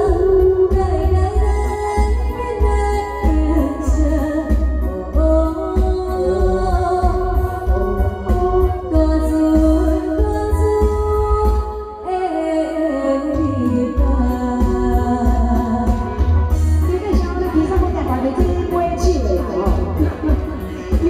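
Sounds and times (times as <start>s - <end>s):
backing music with pulsing bass: 0.0s - 12.0s, 13.0s - 21.0s
woman singing into microphone: 0.0s - 21.0s.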